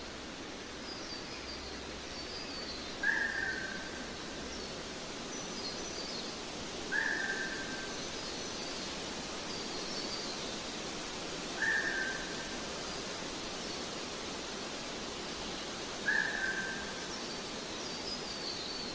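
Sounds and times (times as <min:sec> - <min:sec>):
steady forest hiss: 0:00.0 - 0:18.9.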